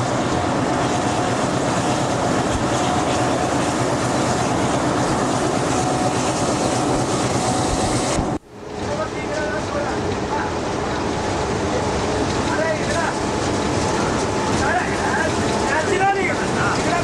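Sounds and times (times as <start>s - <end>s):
diesel locomotive engine: 0.0s - 17.0s
train wheels on rails: 0.0s - 17.0s.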